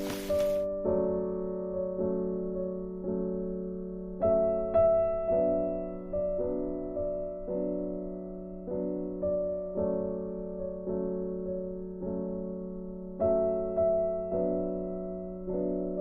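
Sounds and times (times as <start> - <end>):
slow gentle piano chords: 0.0 - 16.0.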